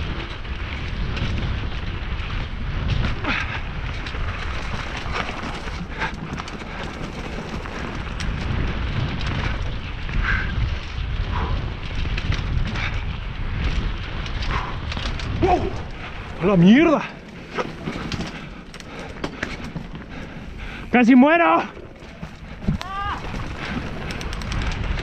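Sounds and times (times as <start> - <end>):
bike rattling clicks: 0.0 - 25.0
bike tyres rumbling over dirt: 0.0 - 25.0.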